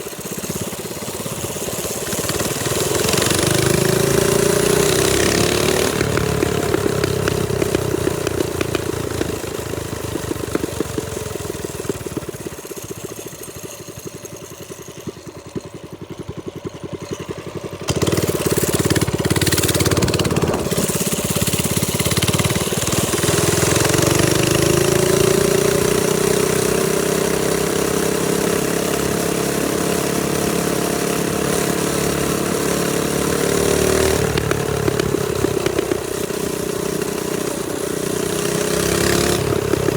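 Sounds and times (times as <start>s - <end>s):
minibike engine running: 0.0s - 39.9s.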